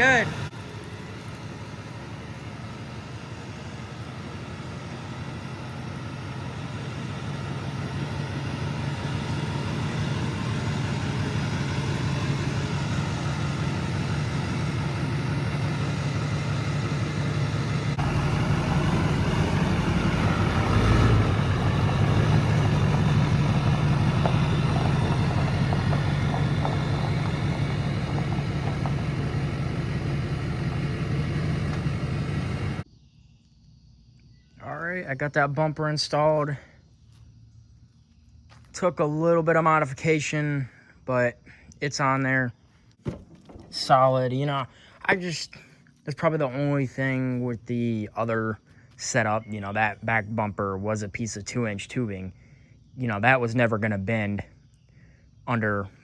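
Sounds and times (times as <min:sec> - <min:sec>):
diesel engine idling: 0:00.0 - 0:32.9, 0:34.6 - 0:56.0.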